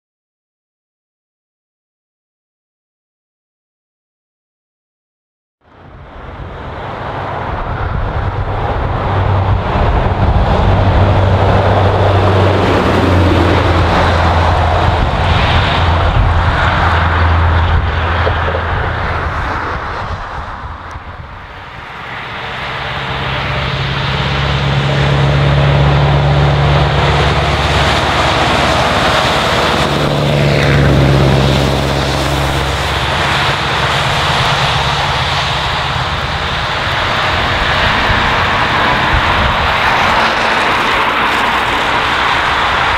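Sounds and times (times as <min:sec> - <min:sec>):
truck engine driving by: 0:05.7 - 0:42.9.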